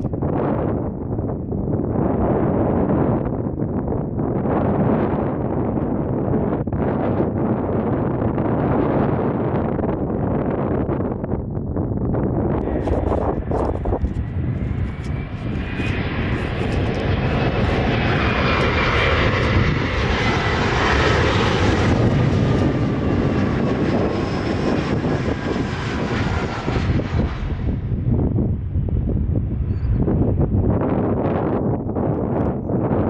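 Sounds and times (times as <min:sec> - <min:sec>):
airplane engines roaring: 0:00.0 - 0:33.0.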